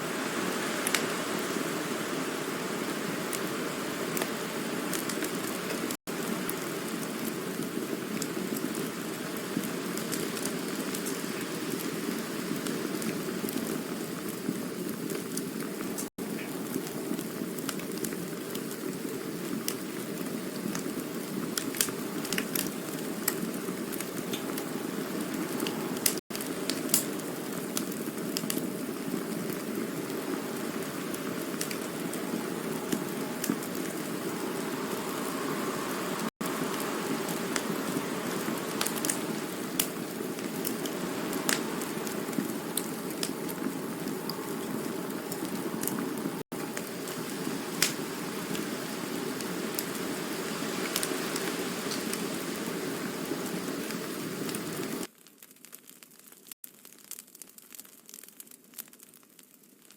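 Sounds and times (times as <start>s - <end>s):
campfire flames rushing: 0.0s - 55.1s
wood crackling and popping: 0.2s - 59.9s.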